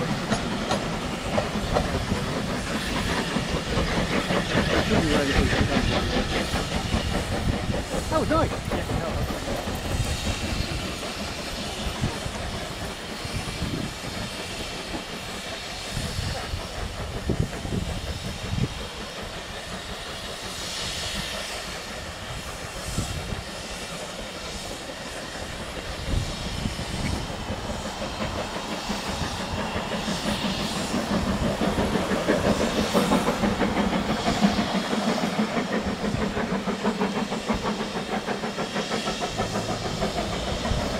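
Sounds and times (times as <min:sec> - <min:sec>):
steam locomotive chuffing: 0:00.0 - 0:40.9
train coaches rumbling and clattering: 0:00.0 - 0:40.9.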